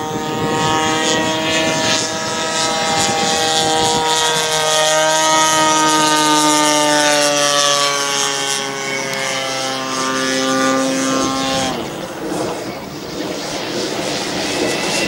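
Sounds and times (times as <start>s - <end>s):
model plane engine buzzing overhead: 0.0s - 15.0s.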